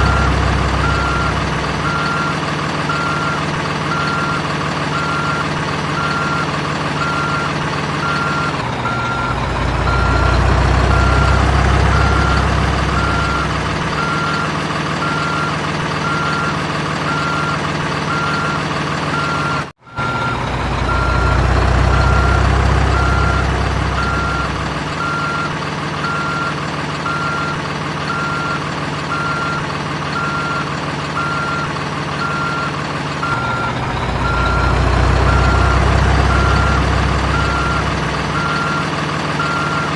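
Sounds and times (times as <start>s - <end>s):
reversing beeper: 0.0s - 16.5s, 17.1s - 29.6s, 30.2s - 39.9s
diesel engine rumble: 0.0s - 39.9s.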